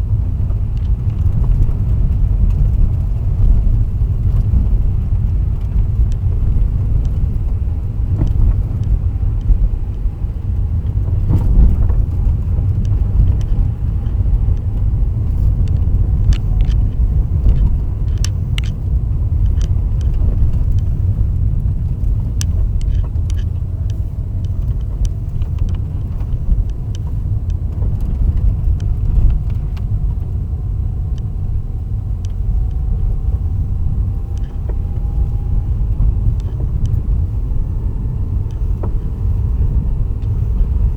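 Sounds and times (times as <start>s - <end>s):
car road rumble: 0.0s - 40.9s.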